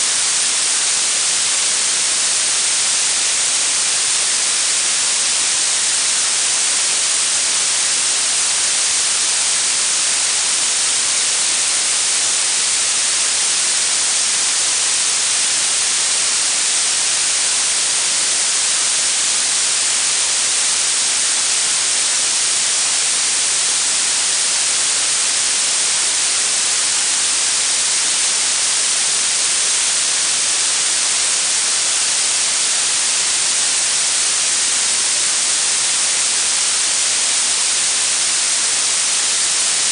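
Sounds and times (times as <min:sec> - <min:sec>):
steady high hiss: 0:00.0 - 0:39.9.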